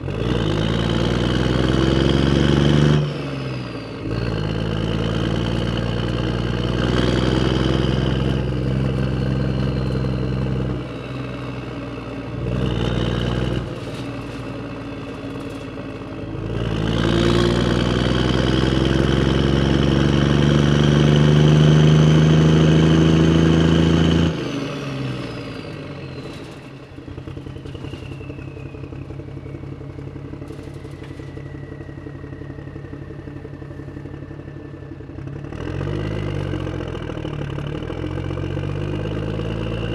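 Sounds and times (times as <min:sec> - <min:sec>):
vehicle engine revving: 0:00.0 - 0:29.3, 0:30.1 - 0:39.9
low engine hum: 0:00.0 - 0:39.9.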